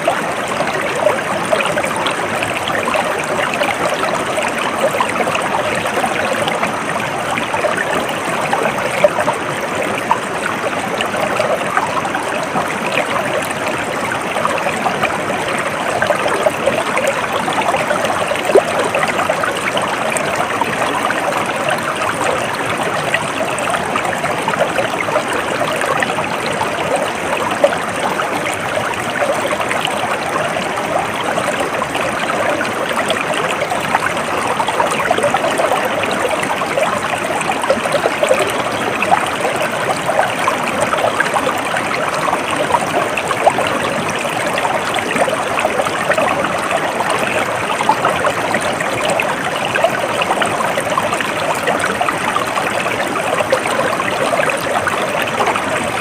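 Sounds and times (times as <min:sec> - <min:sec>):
stream babbling: 0:00.0 - 0:56.0.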